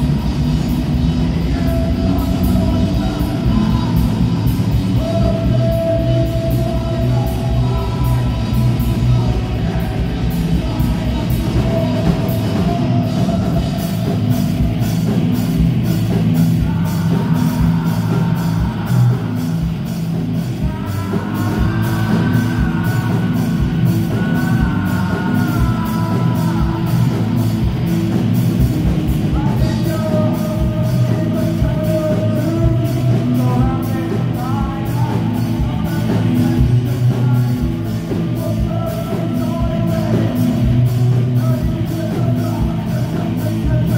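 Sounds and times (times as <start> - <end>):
person singing: 0.0 - 28.0, 29.1 - 43.9
bass and drums: 0.0 - 43.9
electric guitars: 0.0 - 43.9.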